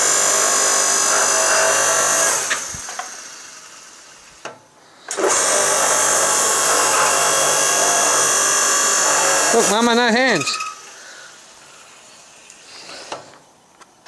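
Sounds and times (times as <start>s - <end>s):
log splitter motor and pump: 0.0s - 13.2s.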